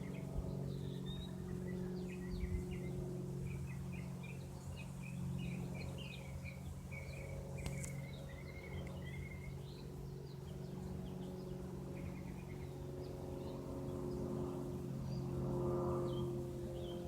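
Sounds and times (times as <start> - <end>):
light aircraft engine droning overhead: 0.0 - 17.0
small birds chirping: 0.0 - 17.0.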